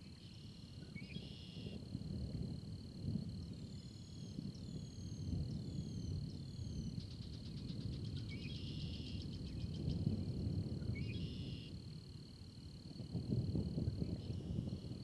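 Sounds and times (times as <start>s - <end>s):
high insect drone: 0.0s - 15.0s
storm rumble: 0.8s - 15.0s.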